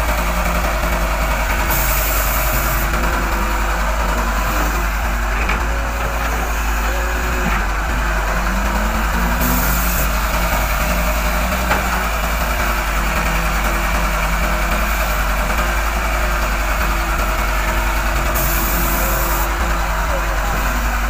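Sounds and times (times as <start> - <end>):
diesel engine running at low revs: 0.0 - 21.0.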